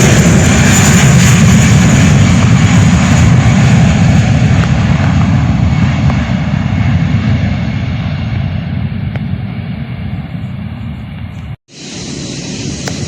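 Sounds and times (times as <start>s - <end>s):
jet engine deep rumble: 0.0s - 13.0s.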